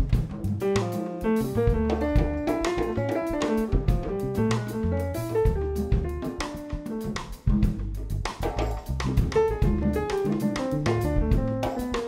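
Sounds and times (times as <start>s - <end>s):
drum kit: 0.0s - 12.0s
instrumental band music: 0.0s - 12.0s.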